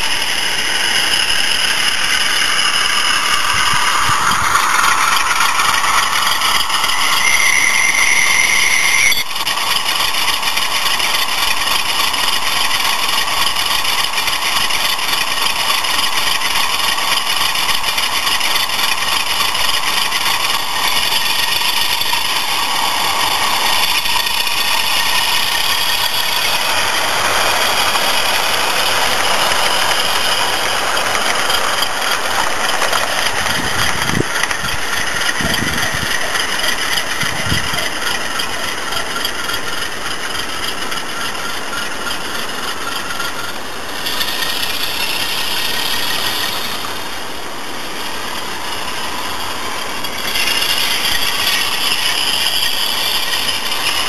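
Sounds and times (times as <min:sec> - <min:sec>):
diesel engine sound from small speaker: 0:00.0 - 0:54.0.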